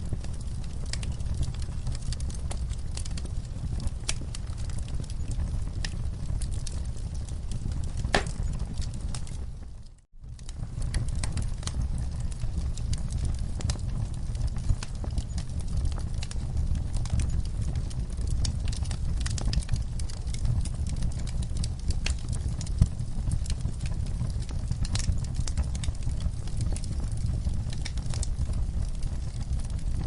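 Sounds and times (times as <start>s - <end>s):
burning wood crackling and popping: 0.0s - 30.0s
campfire rumble: 0.0s - 30.0s.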